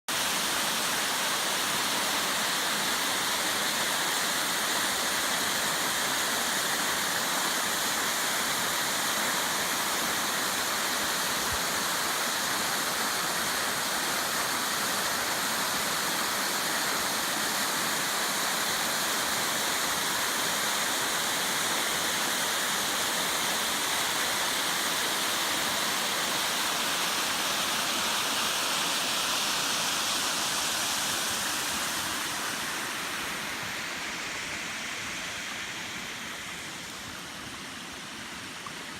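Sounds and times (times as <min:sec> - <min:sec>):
waterfall pouring and splashing: 0:00.0 - 0:38.9.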